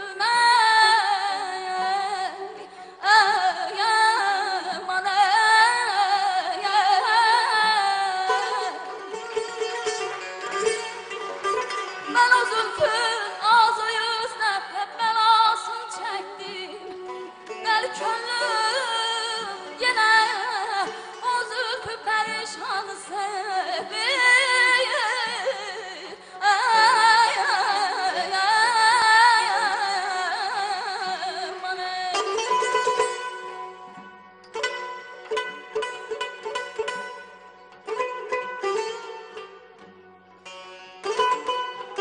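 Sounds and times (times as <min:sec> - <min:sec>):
traditional string ensemble: 0:00.0 - 0:42.0.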